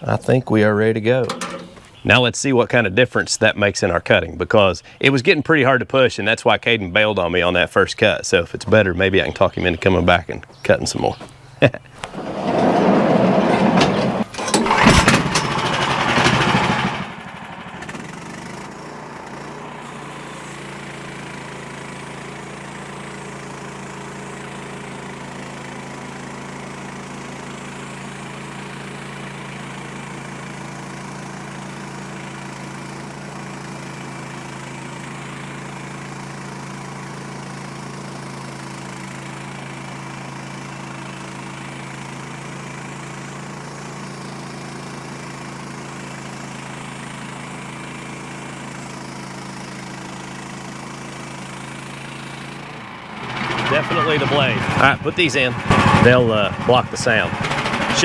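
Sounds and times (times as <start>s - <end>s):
sawmill engine running: 0.0s - 11.2s, 12.0s - 58.0s.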